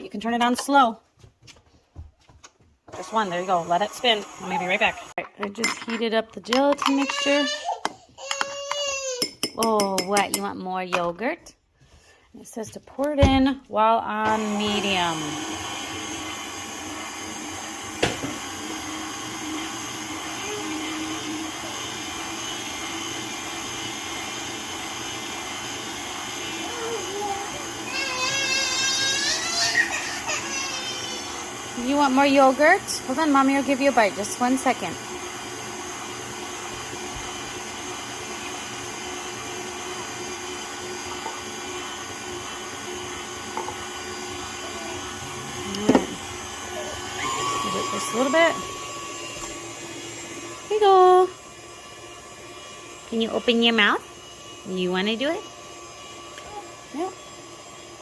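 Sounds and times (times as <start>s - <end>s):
electric mixer motor whirring: 2.9s - 10.5s, 13.3s - 58.0s.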